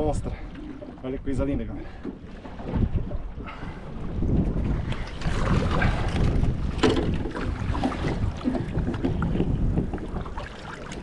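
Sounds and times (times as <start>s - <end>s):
water lapping against hull: 0.0s - 11.0s
wind buffeting microphone: 0.0s - 11.0s.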